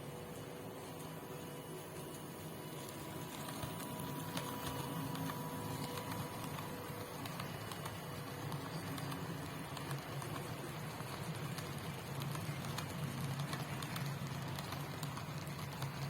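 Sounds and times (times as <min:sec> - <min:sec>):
wheels clicking on rails: 0:02.8 - 0:16.0
model train motor whirring: 0:02.9 - 0:16.0.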